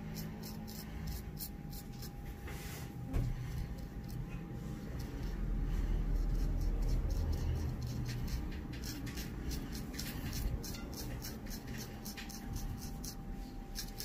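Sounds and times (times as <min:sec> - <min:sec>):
paintbrush scrubbing plastic: 0:00.2 - 0:14.0.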